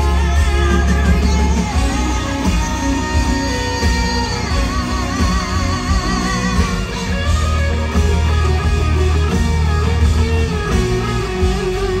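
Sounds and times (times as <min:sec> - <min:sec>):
guitar: 0:00.0 - 0:12.0
heavy bass: 0:00.0 - 0:12.0
live band music: 0:00.0 - 0:12.0.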